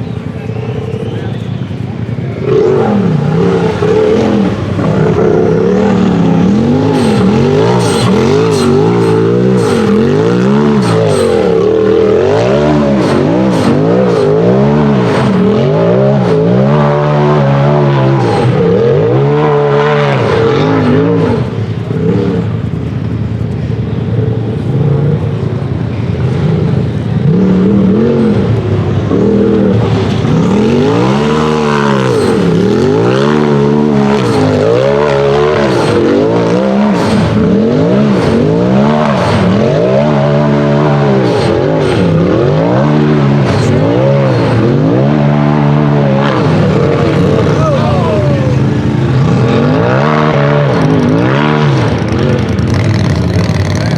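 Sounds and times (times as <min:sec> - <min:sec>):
tire squeal: 0:00.0 - 0:53.9
buggy engine revving hard: 0:00.9 - 0:23.1, 0:23.8 - 0:53.9.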